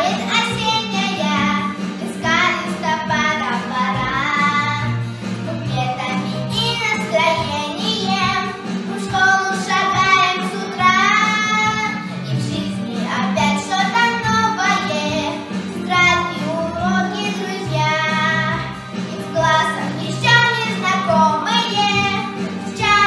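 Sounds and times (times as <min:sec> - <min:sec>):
girl singing: 0:00.0 - 0:23.0
instrumental accompaniment: 0:00.0 - 0:23.0.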